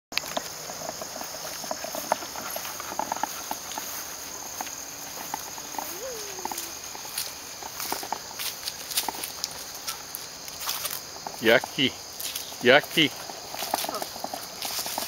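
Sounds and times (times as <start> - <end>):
footsteps on grass: 0.2 - 15.0
insects chirring: 0.2 - 15.0
small ticks on grass: 0.2 - 15.0.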